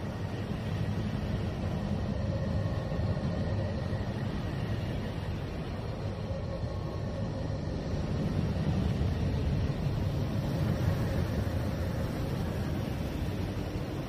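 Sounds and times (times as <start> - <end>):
faint steady hum: 0.0 - 14.0
low rumble of noise: 0.0 - 14.0.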